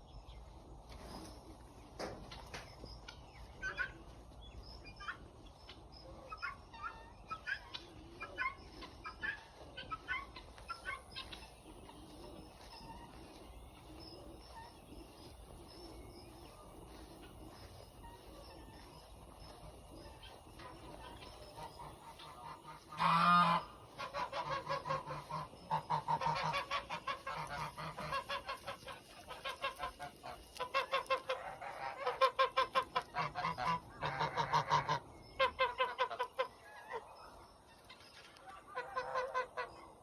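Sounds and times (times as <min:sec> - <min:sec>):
geese honking: 0:02.1 - 0:40.0.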